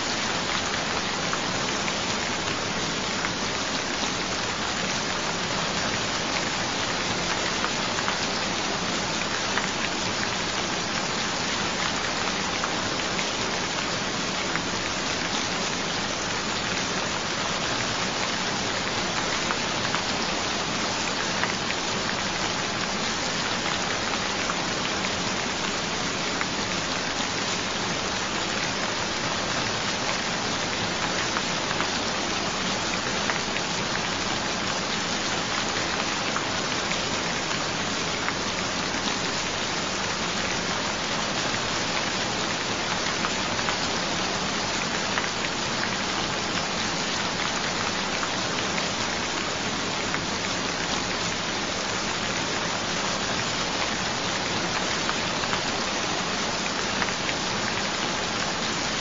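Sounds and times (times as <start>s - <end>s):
gentle steady rain: 0.0s - 59.0s
rain drops ticking: 0.0s - 59.0s.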